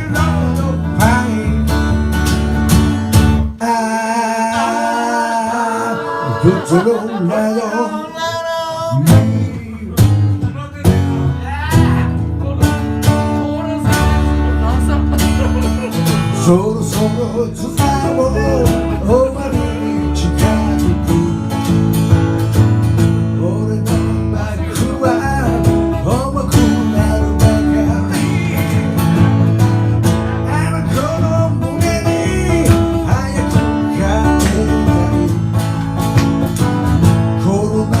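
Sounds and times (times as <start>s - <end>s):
bass notes: 0.0s - 3.6s, 8.9s - 38.0s
strummed guitar: 0.0s - 38.0s.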